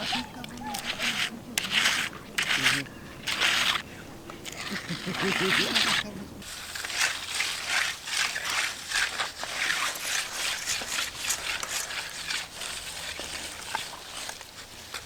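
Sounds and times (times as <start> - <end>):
tool scraping wet concrete: 0.0 - 15.0.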